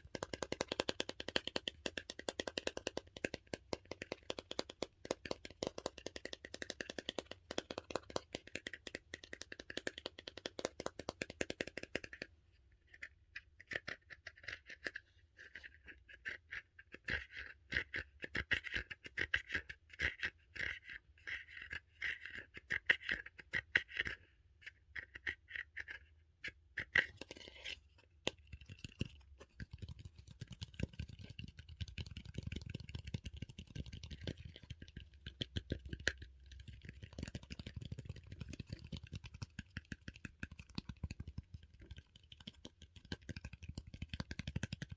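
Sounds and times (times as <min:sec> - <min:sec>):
scratching on squishy toy: 0:00.0 - 0:44.9.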